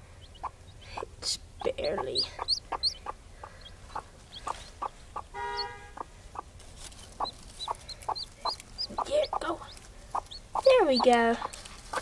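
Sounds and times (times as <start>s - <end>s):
chick peeping: 0.0s - 12.0s
hen clucking: 0.0s - 12.0s.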